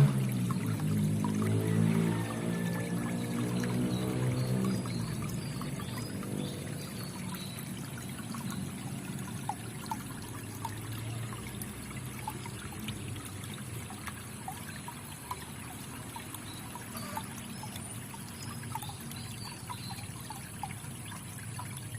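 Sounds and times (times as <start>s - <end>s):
bubbling plinks: 0.0s - 21.9s
water trickling: 0.0s - 21.9s.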